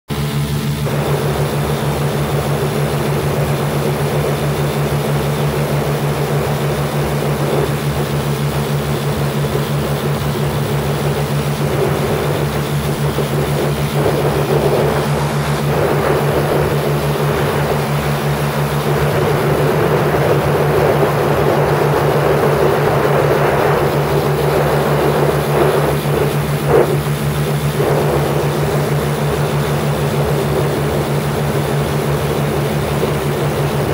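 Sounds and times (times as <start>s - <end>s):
aircraft engines droning: 0.1s - 33.9s
wind noise: 0.2s - 33.9s.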